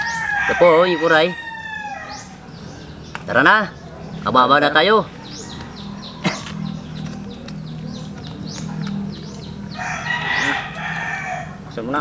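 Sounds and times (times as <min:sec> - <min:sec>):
small bird chirping: 0:00.0 - 0:00.6, 0:01.6 - 0:12.0
rooster crowing: 0:00.0 - 0:02.9, 0:04.9 - 0:11.8.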